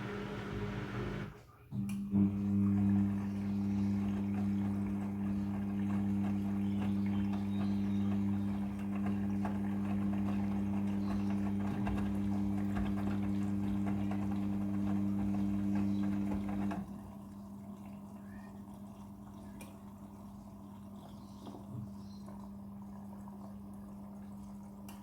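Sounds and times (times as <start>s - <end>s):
water rushing in washing machine: 0.0s - 25.0s.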